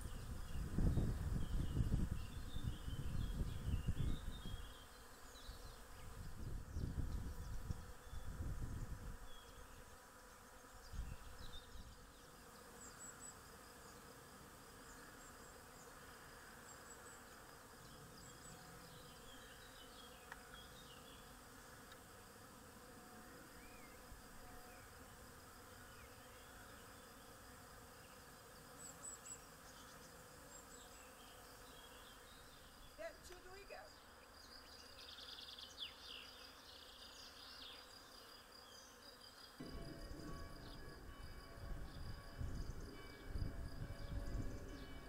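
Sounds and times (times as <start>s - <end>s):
swarm of bees buzzing: 0.0s - 45.0s.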